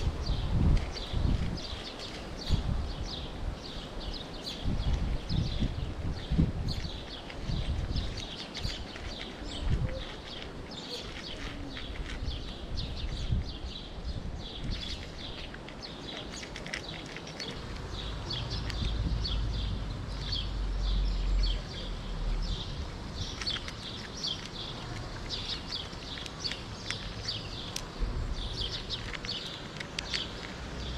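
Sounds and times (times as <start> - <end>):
cat crunching dry kibble: 0.0 - 3.1, 3.8 - 20.4, 22.6 - 30.9
birds chirping: 0.0 - 30.9.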